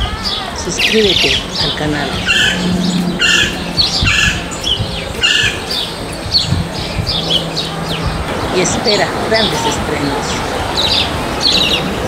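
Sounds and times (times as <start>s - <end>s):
birds squawking harshly: 0.0s - 12.0s.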